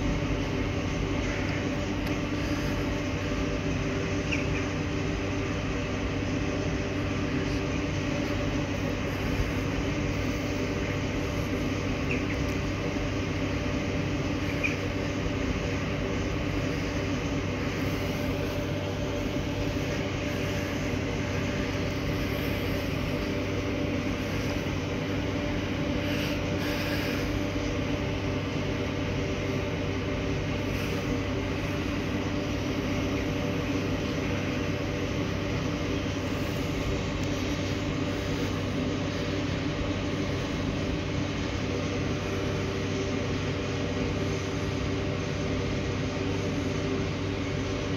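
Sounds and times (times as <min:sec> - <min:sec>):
locomotive equipment humming: 0:00.0 - 0:47.9.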